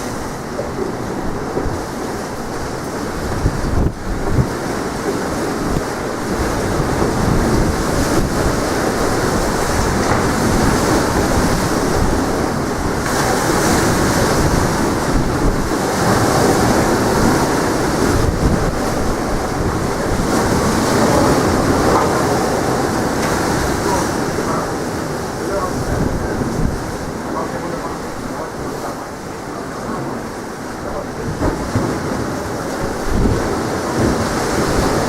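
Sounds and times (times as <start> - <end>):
sea waves washing ashore: 0.0 - 35.0
strong wind on microphone: 0.0 - 35.0.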